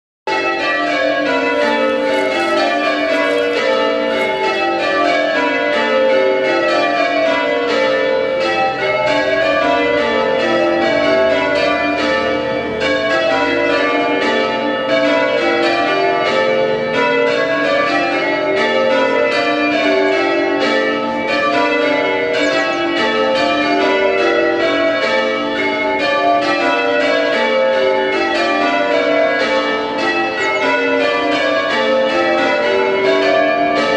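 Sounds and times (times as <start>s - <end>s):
church bells change ringing: 0.3s - 33.9s.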